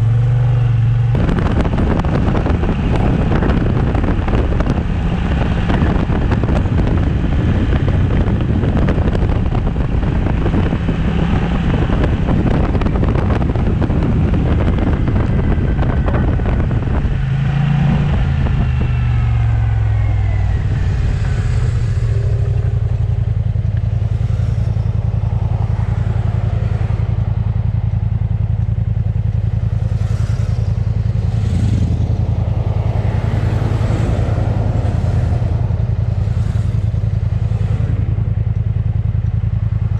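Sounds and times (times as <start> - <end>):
scooter engine: 0.0 - 39.9
wind rush: 0.8 - 39.0.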